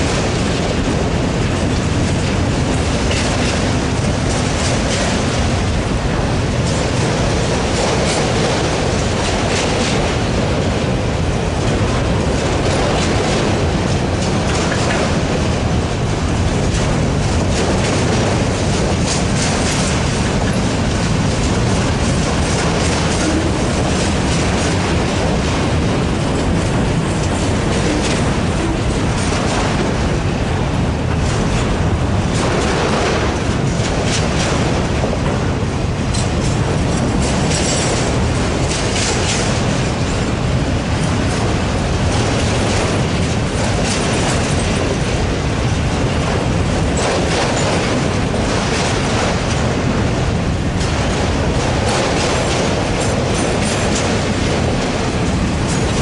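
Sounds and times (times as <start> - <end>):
freight train rolling past: 0.0 - 56.0
train wheels clicking and clanking: 0.0 - 56.0.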